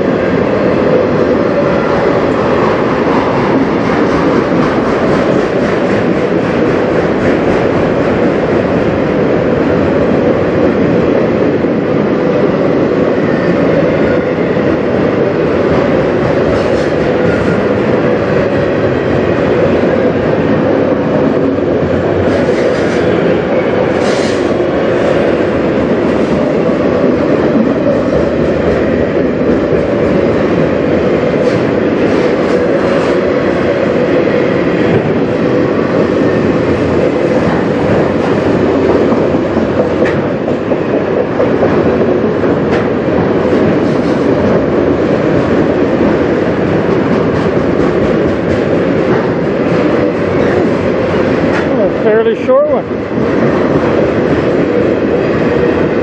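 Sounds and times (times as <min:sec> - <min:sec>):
sharp train clanks: 0:00.0 - 0:56.0
train wheels rumbling on rails: 0:00.0 - 0:56.0.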